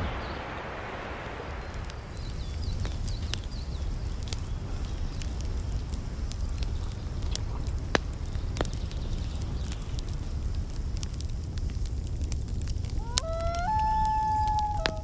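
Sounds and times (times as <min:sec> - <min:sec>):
wood fire crackling: 0:00.4 - 0:15.0.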